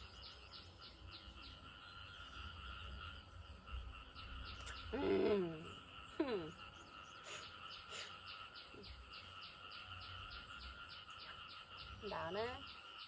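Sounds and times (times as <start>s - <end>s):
frogs and insects calling: 0.0s - 13.0s.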